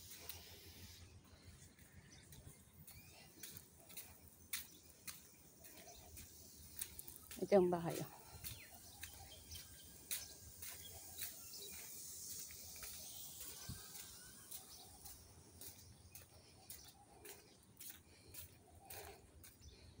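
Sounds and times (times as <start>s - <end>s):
footsteps on paving stones: 1.6s - 20.0s.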